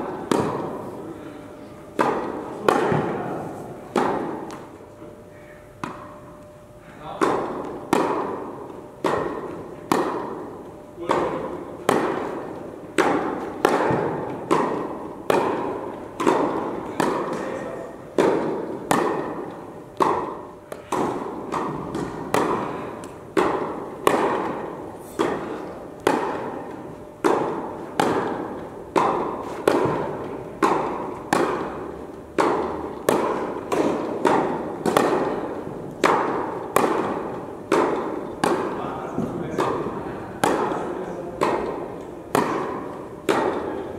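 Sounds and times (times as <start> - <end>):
tennis ball bouncing on court: 0.0 - 1.0, 1.9 - 4.8, 5.8 - 6.2, 7.2 - 43.9
tennis ball struck by rackets: 0.0 - 1.0, 1.9 - 4.8, 5.8 - 6.2, 7.1 - 43.9.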